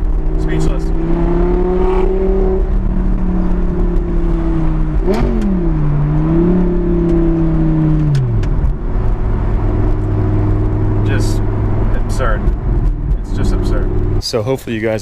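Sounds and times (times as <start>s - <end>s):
car engine revving and idling: 0.0s - 14.8s.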